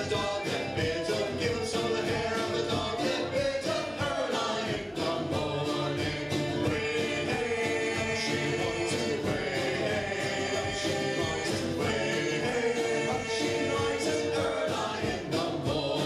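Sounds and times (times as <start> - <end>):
steady drumbeat: 0.0 - 16.0
strummed acoustic guitars: 0.0 - 16.0
voices singing together: 0.0 - 16.0.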